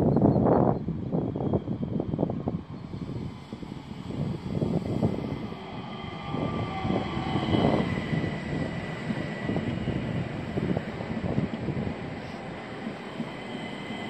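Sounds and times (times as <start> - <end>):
faint high train whine: 0.0 - 14.0
train wheels rumbling on rails: 0.0 - 14.0.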